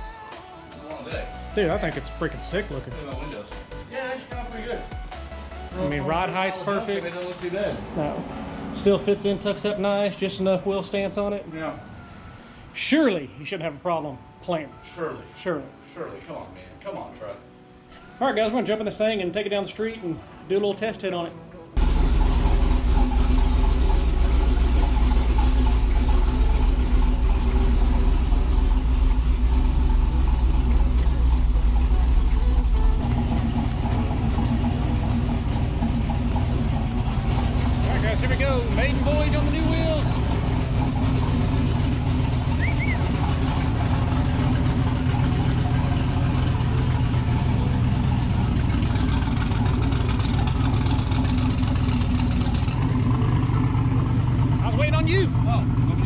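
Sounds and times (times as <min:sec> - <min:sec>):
truck engine idling: 0:00.0 - 0:12.6, 0:20.0 - 0:56.0.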